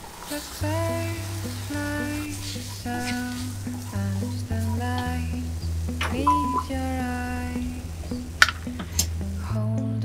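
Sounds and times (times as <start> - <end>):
background music: 0.6 - 10.0.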